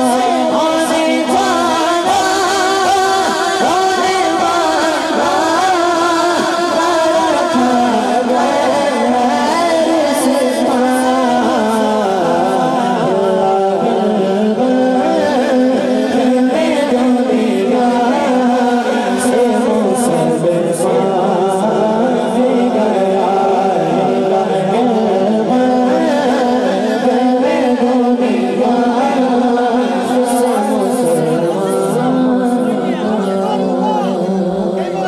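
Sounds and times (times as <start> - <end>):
boy singing into microphone: 0.0 - 35.0.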